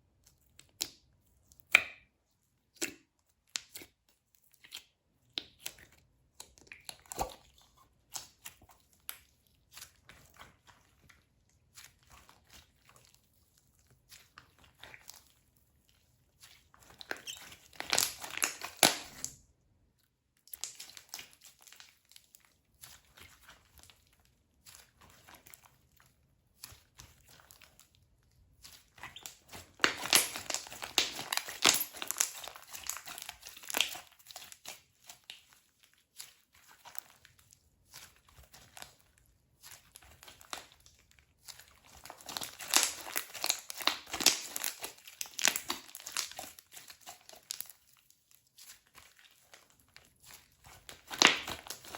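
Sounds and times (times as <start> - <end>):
slime squishing with sticky clicks: 0.1 - 51.9.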